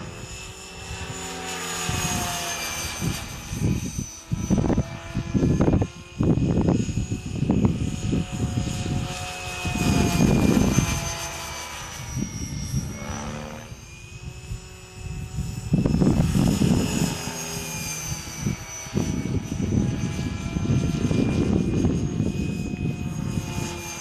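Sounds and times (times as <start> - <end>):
rc helicopter motor whine: 0.0 - 24.0
wind rumble on microphone: 0.0 - 24.0.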